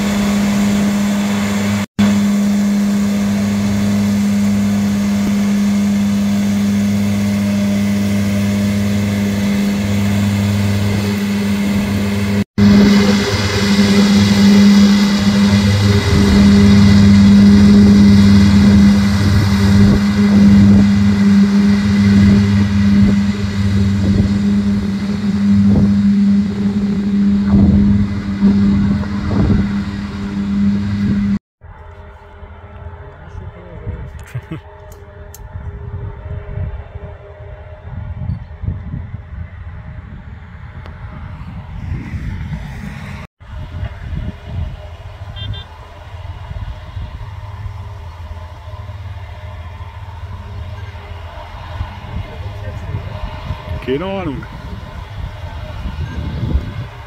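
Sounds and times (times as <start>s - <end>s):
rushing noise: 0.0s - 31.4s, 40.6s - 57.0s
mower engine drone: 0.0s - 57.0s.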